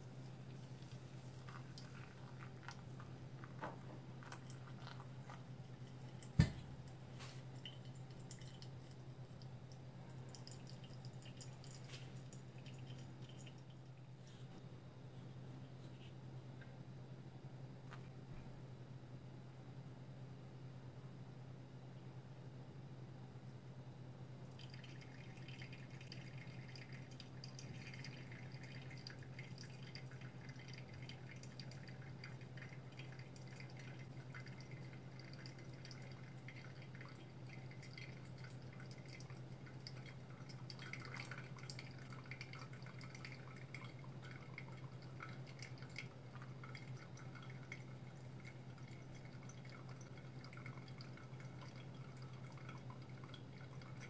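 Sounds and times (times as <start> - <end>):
liquid trickling and dripping: 0.0 - 14.4, 24.5 - 54.0.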